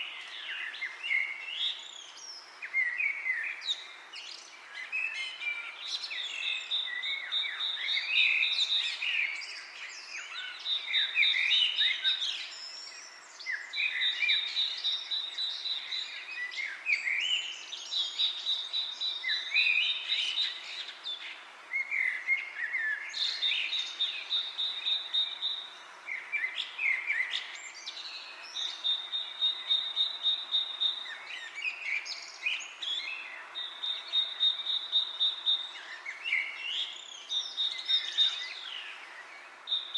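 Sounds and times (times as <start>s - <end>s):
birds chirping: 0.0s - 39.9s
wind in the leaves: 0.0s - 39.9s.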